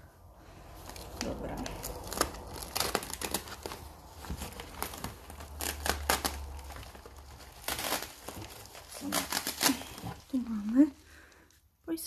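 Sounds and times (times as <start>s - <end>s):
packing material crinkling: 0.4s - 11.6s.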